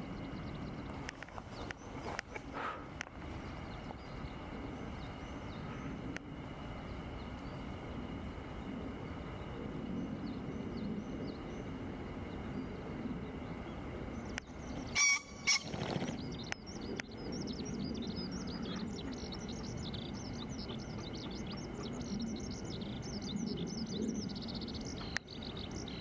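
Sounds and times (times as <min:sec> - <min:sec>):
faint bird chirping: 0:00.0 - 0:26.0
low steady rumble: 0:00.0 - 0:26.0.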